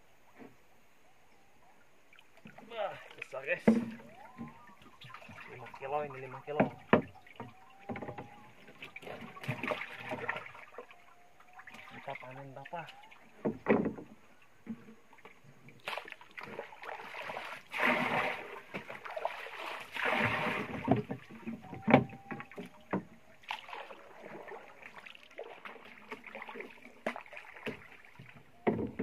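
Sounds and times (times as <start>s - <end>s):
paddle swishing through water: 2.1s - 29.0s
paddle knocking against wooden hull: 3.5s - 29.0s.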